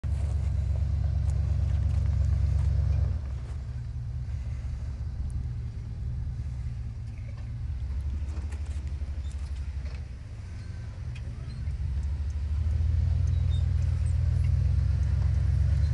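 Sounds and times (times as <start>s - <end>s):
truck engine rumbling: 0.0s - 15.9s.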